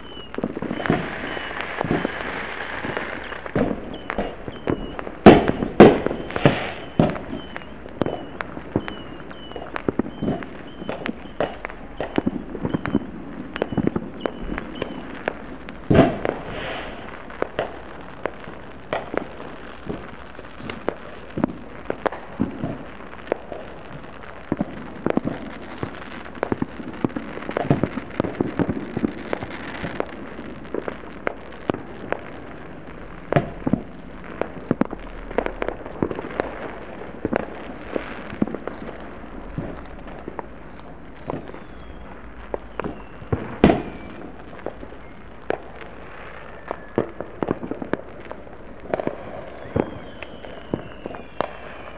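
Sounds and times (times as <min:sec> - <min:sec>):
distant fireworks popping: 0:00.0 - 0:51.9.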